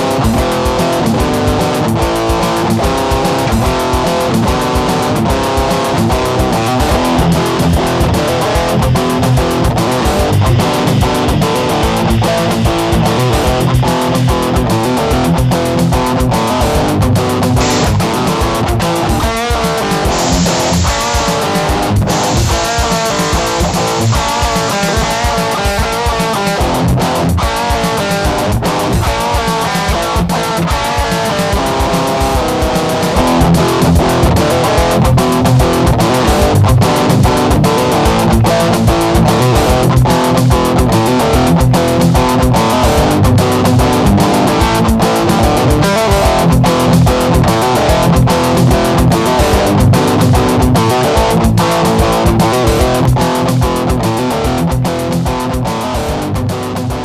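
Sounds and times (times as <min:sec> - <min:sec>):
electric guitar over drum-machine beat: 0:00.0 - 0:57.0.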